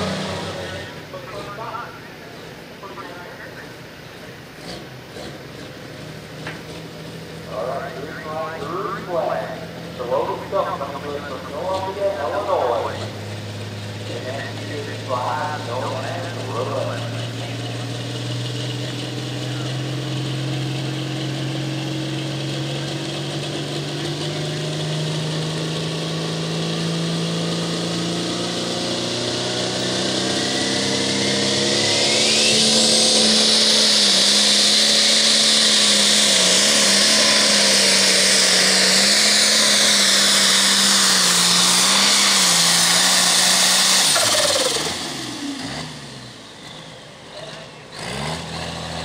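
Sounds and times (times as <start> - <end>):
diesel tractor engine under load: 0.0 - 49.0.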